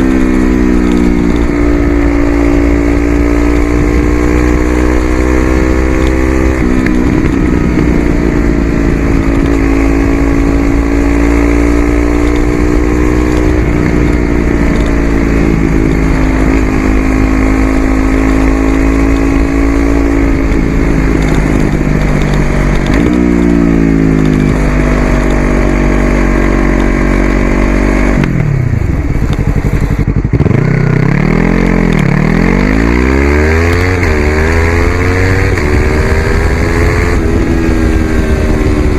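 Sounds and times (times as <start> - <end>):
motorcycle engine revving loud: 0.0 - 38.9.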